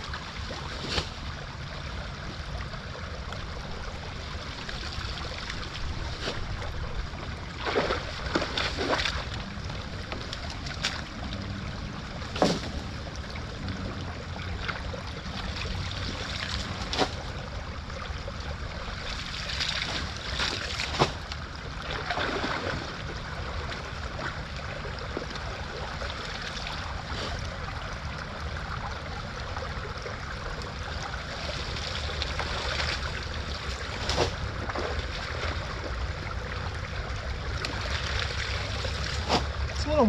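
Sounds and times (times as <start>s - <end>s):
creek water flowing and splashing: 0.0s - 40.0s.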